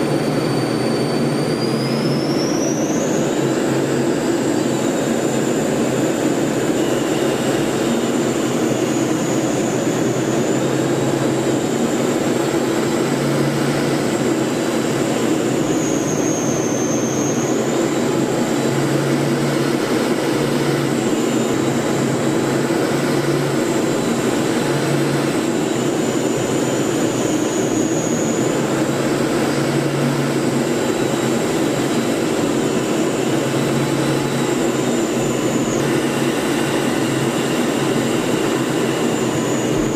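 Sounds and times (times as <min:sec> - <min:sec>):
aircraft engine noise: 0:00.0 - 0:39.9
cockpit airflow noise: 0:00.0 - 0:39.9
high turbine whine: 0:00.0 - 0:39.9.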